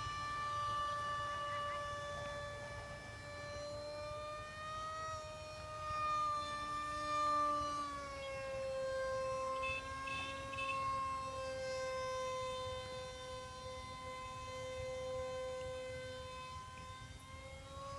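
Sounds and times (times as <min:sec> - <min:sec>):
model airplane motor whining: 0:00.0 - 0:17.9.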